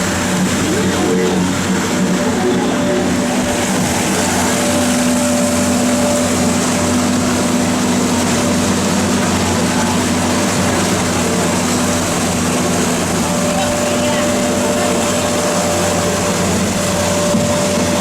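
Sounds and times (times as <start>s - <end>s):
motorboat engine: 0.0s - 18.0s
water rushing: 0.0s - 18.0s
wind: 0.0s - 18.0s.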